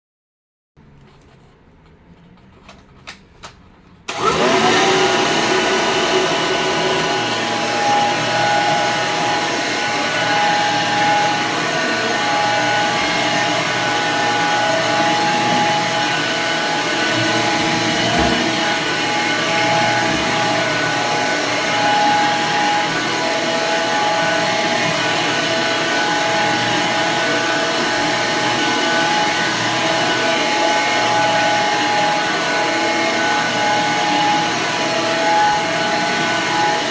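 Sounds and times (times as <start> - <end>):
vacuum cleaner motor whine: 4.1 - 36.9.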